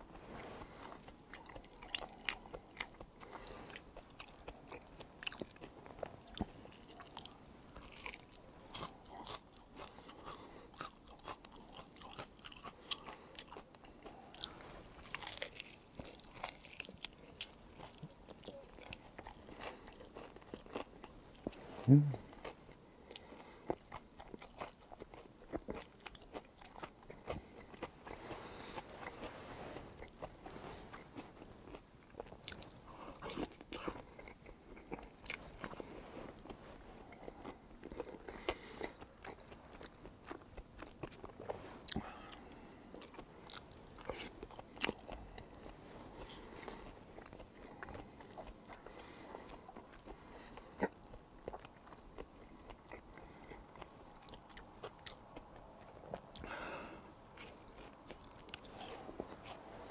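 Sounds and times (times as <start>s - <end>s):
person biting and chewing: 0.1s - 50.2s.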